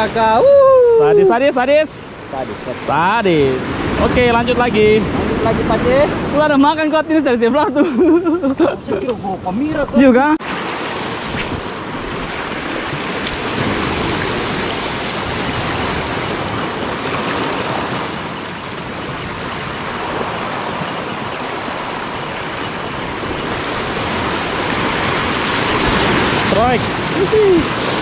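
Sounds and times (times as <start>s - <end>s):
sea surf over rocks: 0.0s - 28.0s.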